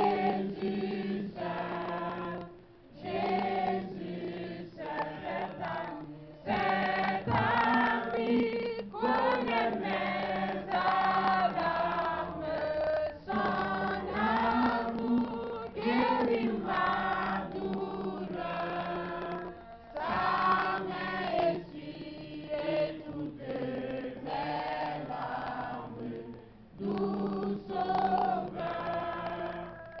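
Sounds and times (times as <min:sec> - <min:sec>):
congregation singing a worship song: 0:00.0 - 0:30.0.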